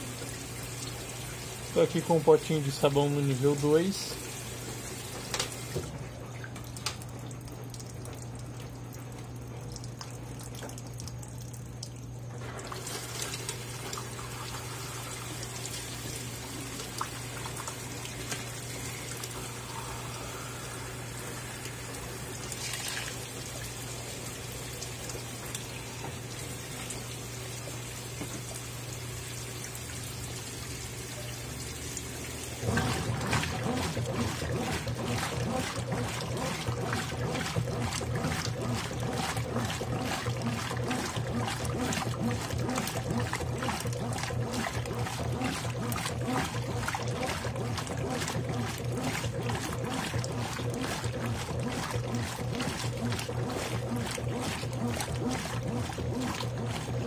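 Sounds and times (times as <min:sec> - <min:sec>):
water rushing into washing machine: 0:00.0 - 0:57.0.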